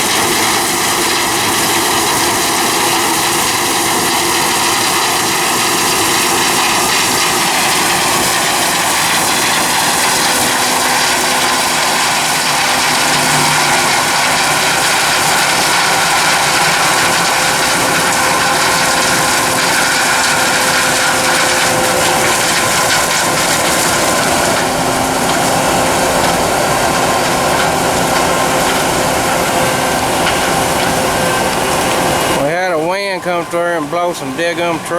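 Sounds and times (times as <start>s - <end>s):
combine harvester drone: 0.0s - 34.9s
machinery whining tones: 0.0s - 34.9s.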